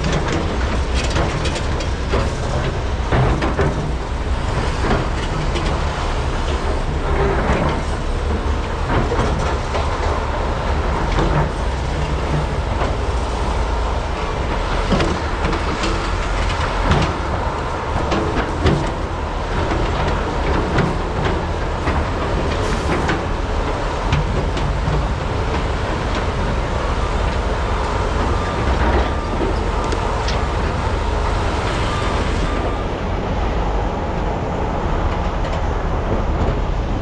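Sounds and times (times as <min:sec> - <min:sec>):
excavator diesel engines rumbling: 0:00.0 - 0:37.0.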